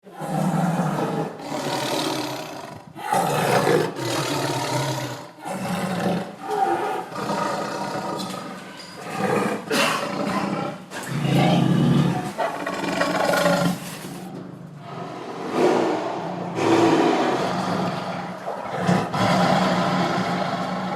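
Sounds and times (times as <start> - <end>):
tiger growling: 0.0 - 20.9
tiger roaring: 0.0 - 20.9.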